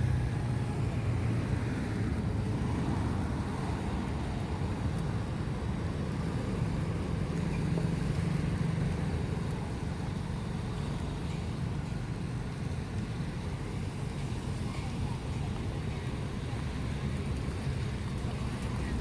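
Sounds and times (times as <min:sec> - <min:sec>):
steady road noise: 0:00.0 - 0:19.0.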